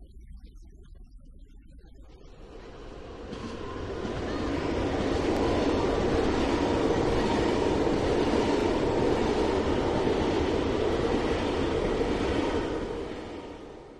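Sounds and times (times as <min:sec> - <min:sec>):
model train rumbling on rails: 0:02.3 - 0:13.9.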